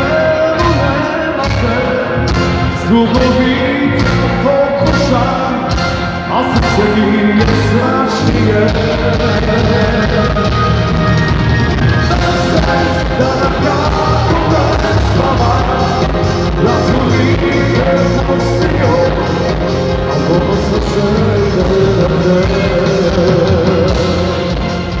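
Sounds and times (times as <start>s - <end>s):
live pop band with keyboards: 0.0s - 25.0s
man singing: 0.0s - 25.0s.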